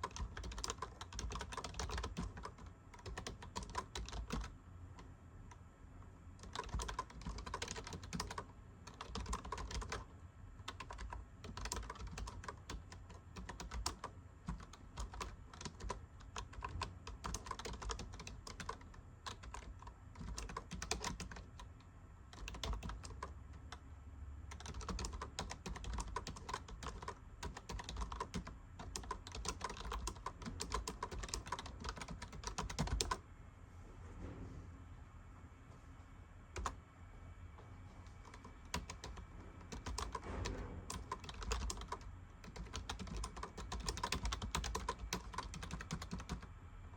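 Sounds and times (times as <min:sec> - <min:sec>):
fast typing on keyboard: 0:00.0 - 0:04.5, 0:06.4 - 0:21.7, 0:22.3 - 0:23.8, 0:24.5 - 0:33.2, 0:38.2 - 0:46.5.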